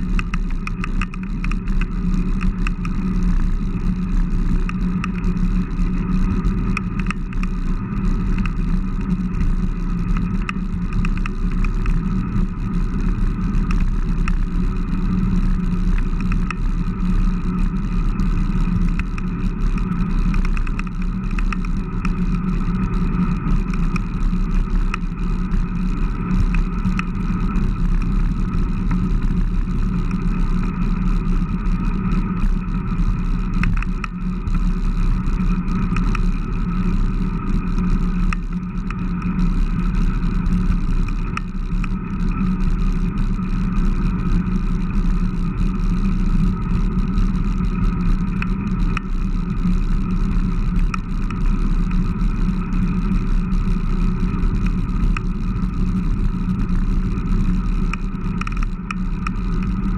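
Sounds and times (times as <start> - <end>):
bike tyres on asphalt: 0.0 - 59.9
small clicks: 0.0 - 59.9
wind rumble: 0.0 - 59.9.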